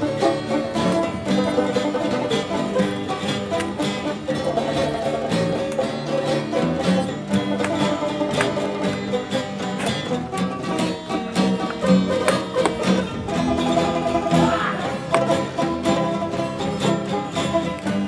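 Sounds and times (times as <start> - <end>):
brisk picked instrumental music: 0.0 - 18.0.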